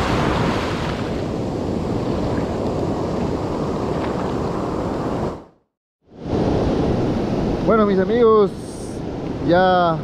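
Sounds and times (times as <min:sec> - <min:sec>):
ocean surf rushing: 0:00.0 - 0:05.5, 0:06.1 - 0:10.0.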